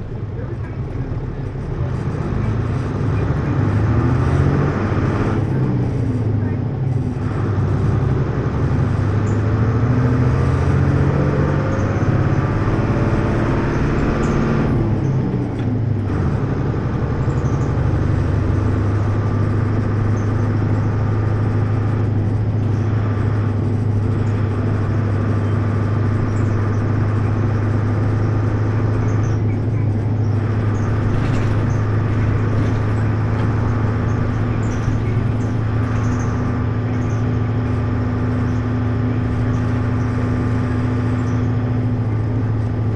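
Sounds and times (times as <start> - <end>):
city bus engine running: 0.0 - 42.9.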